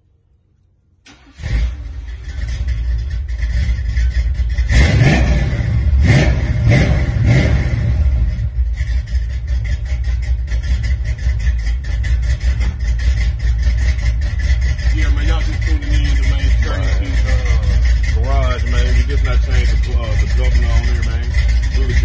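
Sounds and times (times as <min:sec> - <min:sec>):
car engine revving and idling: 0:01.0 - 0:22.0.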